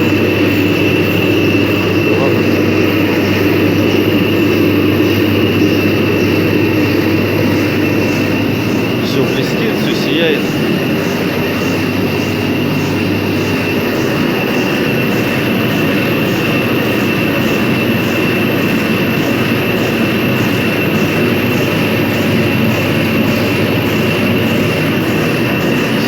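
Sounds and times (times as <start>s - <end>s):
machine noise with high whine: 0.0s - 26.0s.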